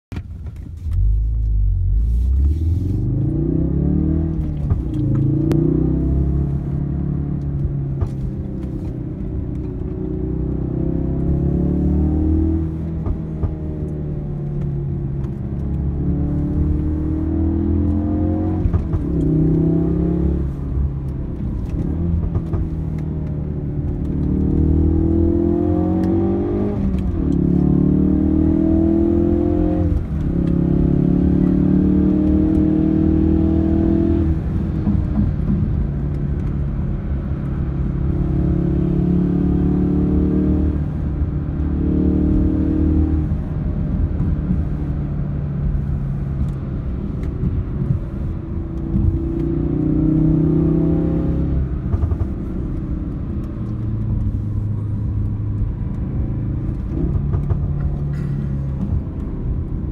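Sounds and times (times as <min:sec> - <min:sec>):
deep road rumble: 0:00.1 - 0:59.9
car engine accelerating: 0:00.2 - 0:59.9.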